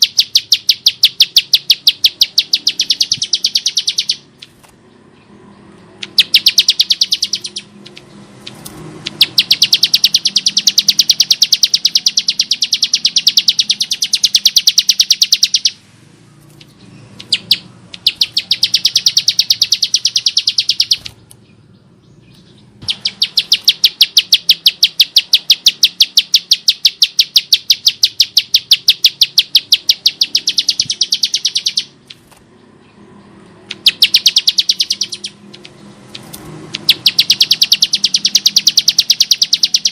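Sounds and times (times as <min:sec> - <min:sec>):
bird rattling trills: 0:00.0 - 0:04.8, 0:06.0 - 0:15.8, 0:16.5 - 0:21.3, 0:22.8 - 0:32.5, 0:33.7 - 0:39.9.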